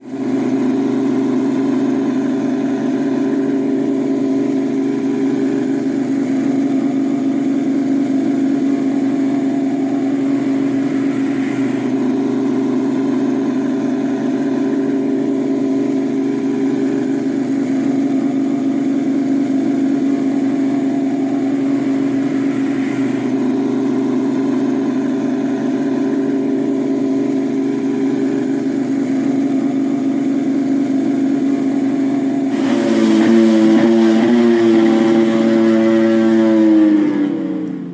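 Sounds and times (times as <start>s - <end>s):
engine running steadily: 0.0s - 37.9s.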